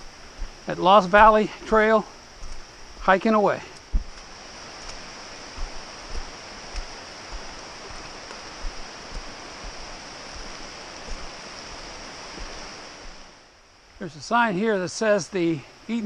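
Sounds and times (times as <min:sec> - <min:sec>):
footsteps on rocky trail: 0:00.0 - 0:13.3
creek rushing: 0:00.0 - 0:15.8.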